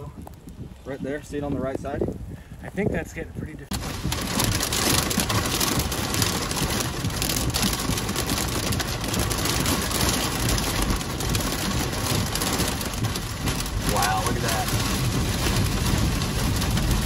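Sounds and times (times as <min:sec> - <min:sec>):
deep gusty wind rumble: 0:00.0 - 0:17.0
heavy rain beating on a vehicle: 0:00.0 - 0:17.0.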